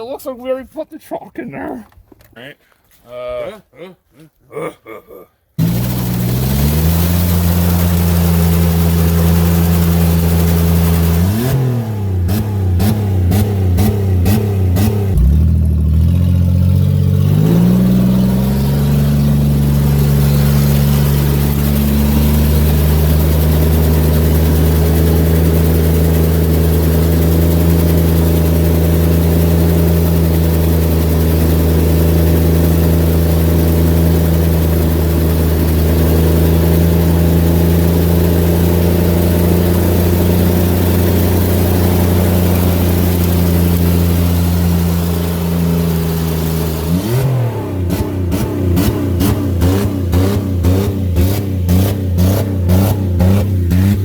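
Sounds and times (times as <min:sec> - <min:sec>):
car engine revving: 0:05.6 - 0:54.0.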